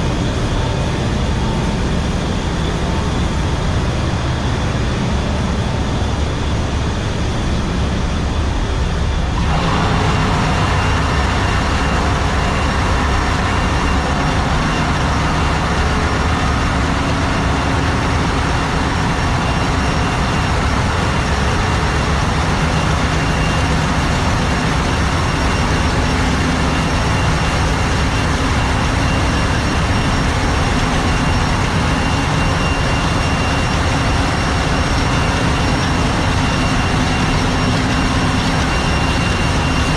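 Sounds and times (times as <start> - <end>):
engine room machinery drone: 0.0 - 39.9
faint high whine: 0.0 - 39.9.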